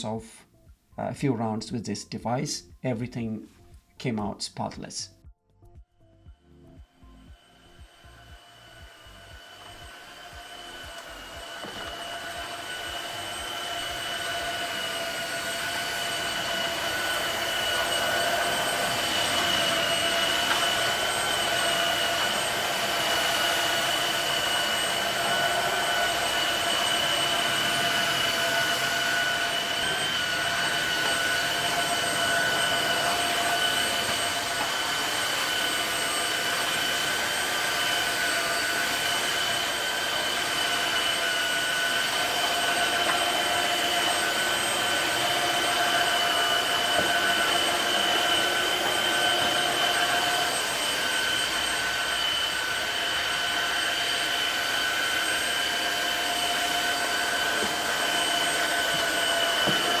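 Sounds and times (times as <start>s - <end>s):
vacuum mop motor whine: 6.2s - 60.0s.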